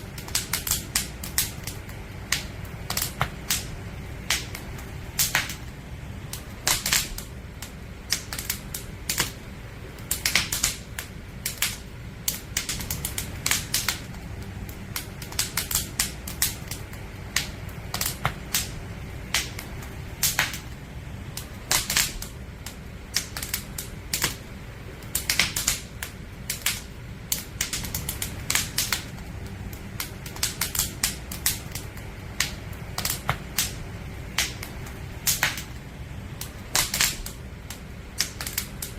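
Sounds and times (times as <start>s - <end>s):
campfire crackling and popping: 0.0s - 38.9s
low rumble of flames: 0.0s - 38.9s.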